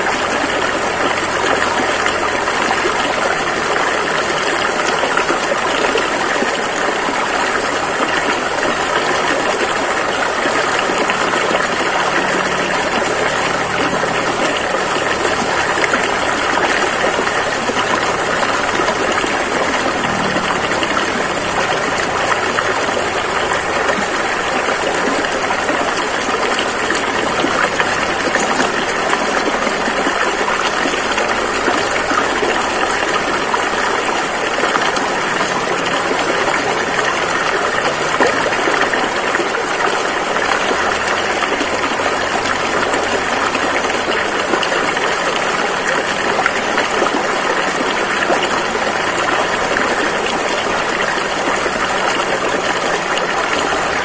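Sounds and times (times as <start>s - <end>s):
river rushing over rapids: 0.0s - 54.0s.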